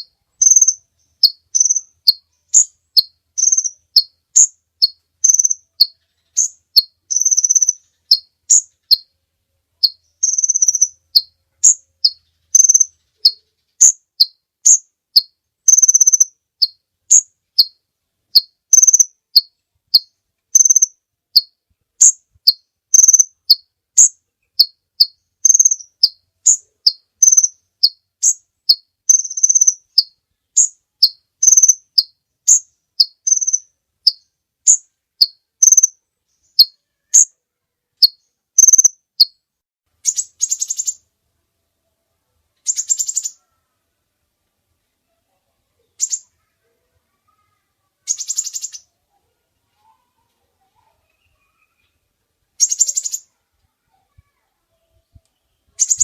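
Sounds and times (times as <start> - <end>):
sunbird singing: 0.0 - 37.4, 38.0 - 39.4, 40.0 - 41.1, 42.6 - 43.8, 45.8 - 49.2, 49.8 - 53.4, 54.0 - 56.0.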